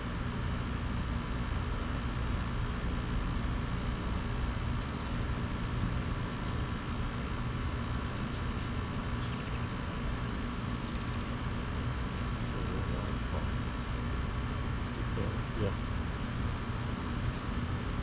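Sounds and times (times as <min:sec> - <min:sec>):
hummingbirds chirping: 0:01.5 - 0:02.6, 0:03.2 - 0:18.0.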